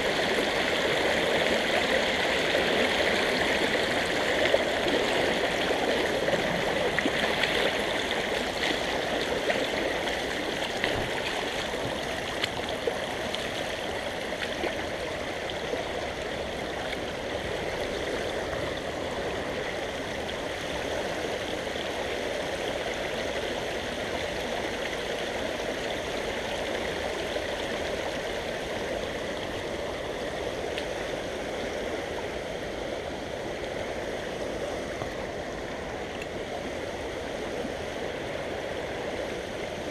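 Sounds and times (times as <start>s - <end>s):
creek water rushing over stones: 0.0s - 39.9s.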